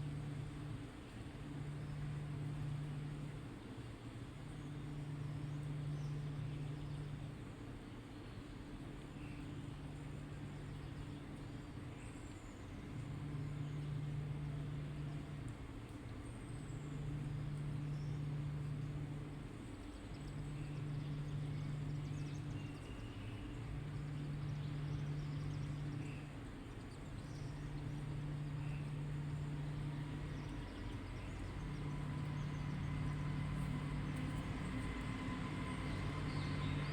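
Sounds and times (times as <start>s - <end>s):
low steady hum: 0.0s - 36.9s
faint bird chirps: 4.4s - 36.9s.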